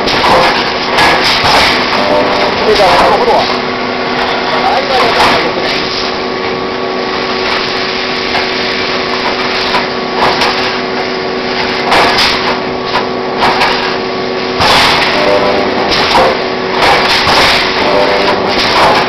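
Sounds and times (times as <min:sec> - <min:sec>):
machine clanking bursts: 0:00.0 - 0:06.3, 0:07.2 - 0:19.0
welding machine hum: 0:00.0 - 0:19.0.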